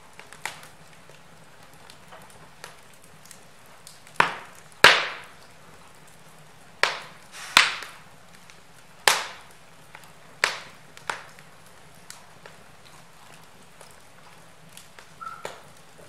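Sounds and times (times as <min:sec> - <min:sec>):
logs crackling and popping: 0:00.0 - 0:16.0.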